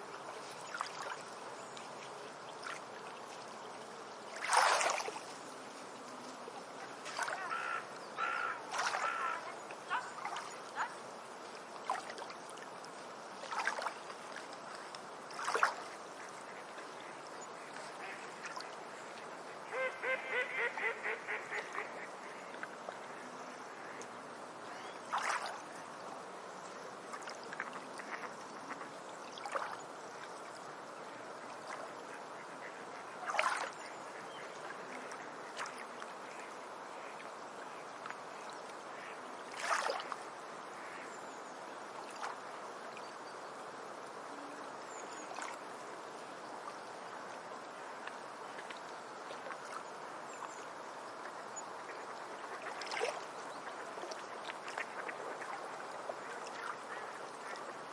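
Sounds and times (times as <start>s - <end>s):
water washing on beach: 0.0s - 19.8s, 21.5s - 57.9s.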